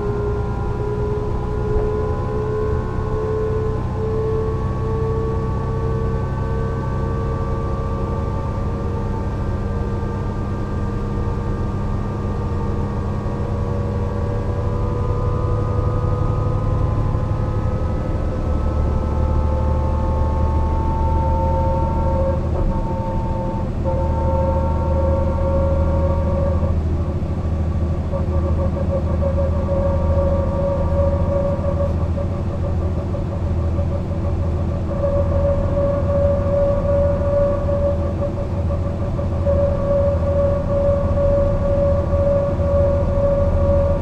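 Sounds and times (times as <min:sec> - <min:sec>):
bus drivetrain rumble and whine: 0:00.0 - 0:44.0.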